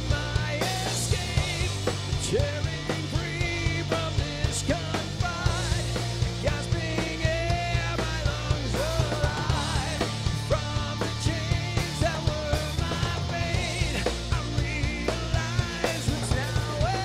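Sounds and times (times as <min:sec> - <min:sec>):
drum kit beat: 0:00.0 - 0:17.0
live metal band playing: 0:00.0 - 0:17.0.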